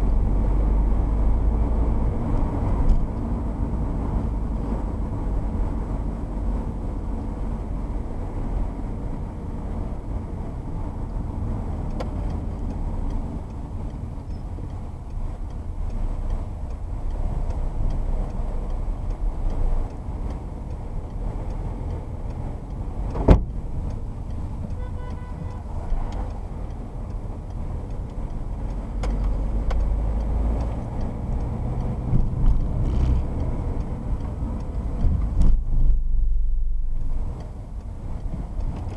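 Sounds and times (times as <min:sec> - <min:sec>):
car tyre and engine rumble: 0:00.0 - 0:38.9.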